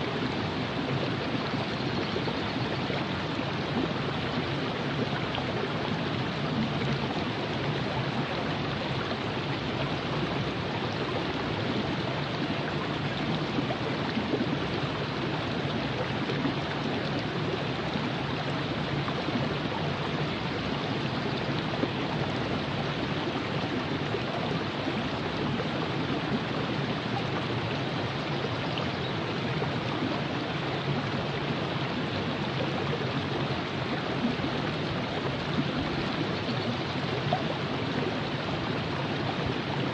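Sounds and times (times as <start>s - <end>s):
river water rushing over rocks: 2.5s - 39.9s.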